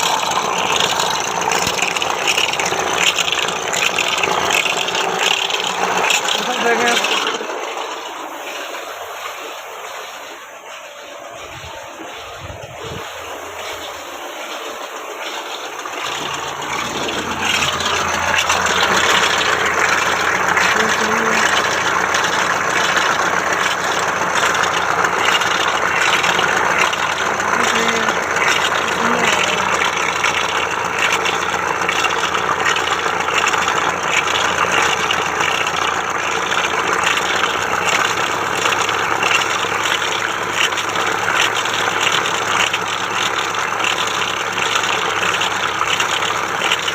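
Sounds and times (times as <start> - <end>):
diesel engine starting and idling: 0.0 - 46.9.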